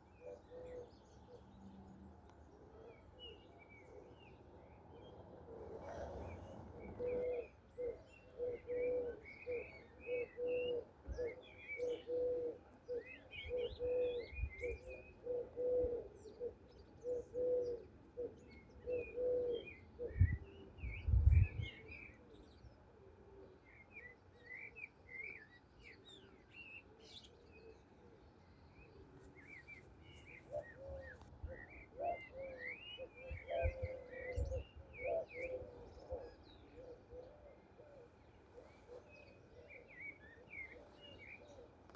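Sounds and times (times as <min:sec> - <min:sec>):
songbirds chirping: 0:00.0 - 0:41.9
dove cooing: 0:00.1 - 0:01.5, 0:05.1 - 0:23.7, 0:27.1 - 0:41.9.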